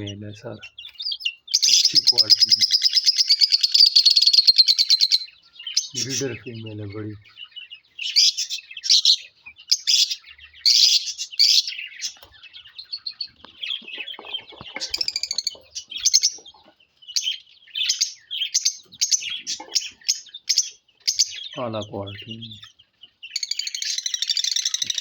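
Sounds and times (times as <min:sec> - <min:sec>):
lovebirds chirping: 0:00.0 - 0:25.0.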